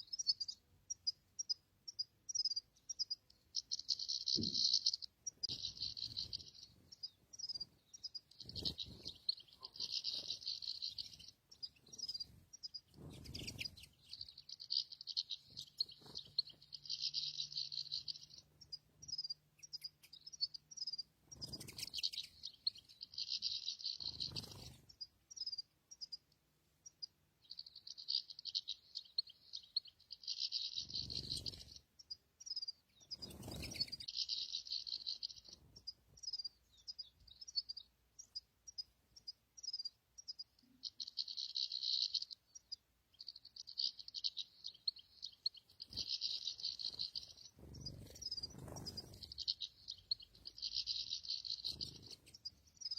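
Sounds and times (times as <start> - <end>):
bird twittering and chirping: 0.0 - 52.9.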